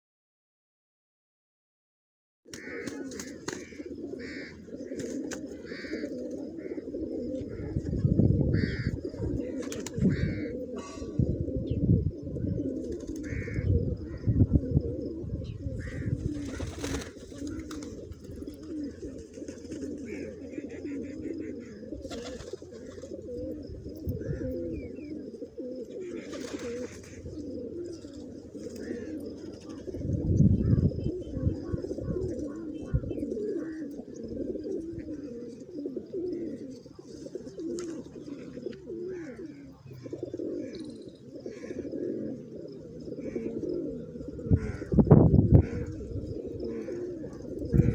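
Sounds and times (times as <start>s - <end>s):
pigeons cooing: 2.5s - 47.9s.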